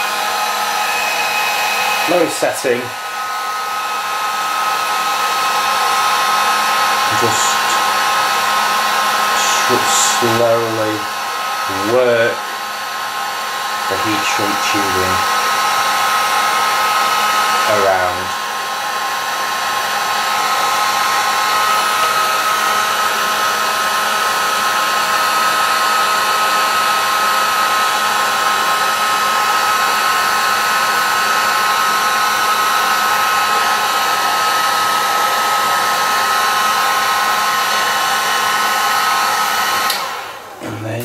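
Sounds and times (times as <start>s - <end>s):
heat gun blowing with whine: 0.0s - 41.0s.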